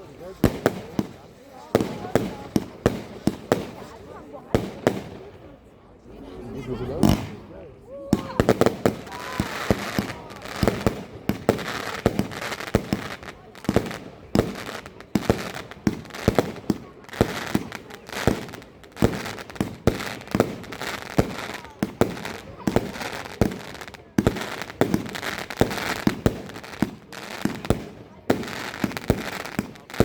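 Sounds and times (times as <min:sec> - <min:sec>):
firework bangs: 0:00.0 - 0:05.5, 0:07.0 - 0:30.0.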